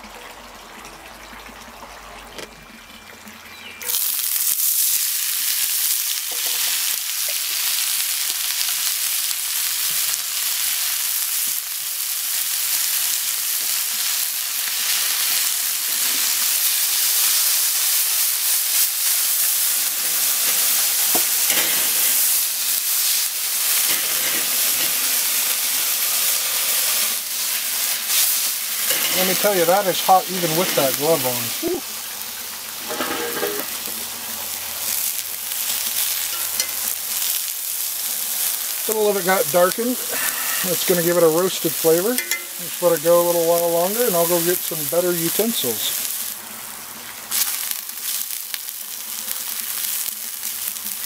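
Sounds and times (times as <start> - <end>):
corn sizzling in hot oil: 0.0 - 51.0.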